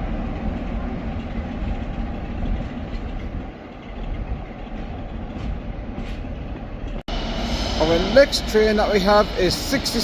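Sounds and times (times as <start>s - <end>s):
train wheels on rails: 0.0s - 10.0s.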